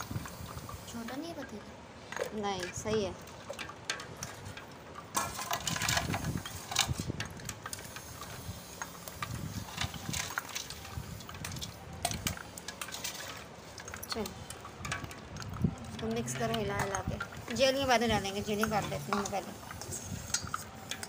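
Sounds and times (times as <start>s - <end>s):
hand rummaging through ice and water: 0.2s - 21.0s
ice and ladle clinking on metal pot: 1.0s - 21.0s.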